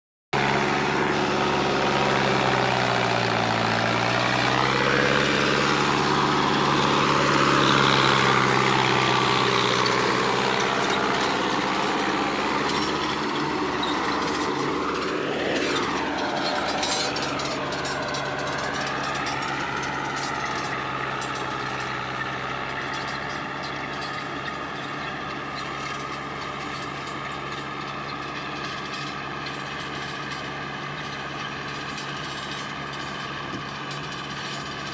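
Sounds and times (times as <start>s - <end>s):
tractor diesel engine running: 0.3s - 34.9s.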